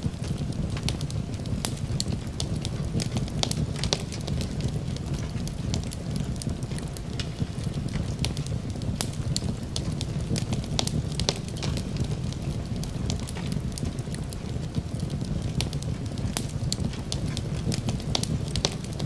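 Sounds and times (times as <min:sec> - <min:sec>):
rain hissing: 0:00.0 - 0:19.0
wood fire crackling and popping: 0:00.0 - 0:19.0.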